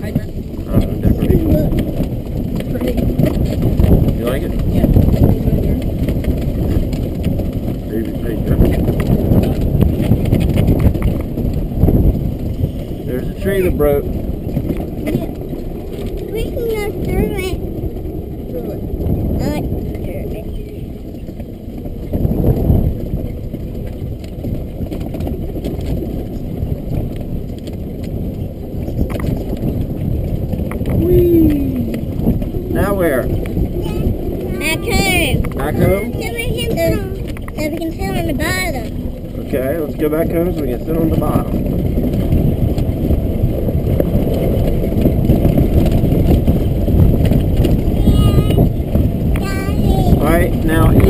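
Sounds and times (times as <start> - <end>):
golf cart rumbling over grass: 0.0 - 51.0
wind buffeting microphone: 0.0 - 51.0.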